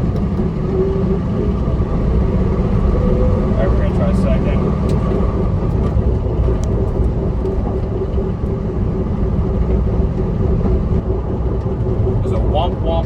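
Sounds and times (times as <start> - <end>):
car engine rumbling: 0.0 - 13.0
road and tyre noise: 0.0 - 13.0
steady whine: 0.0 - 13.0.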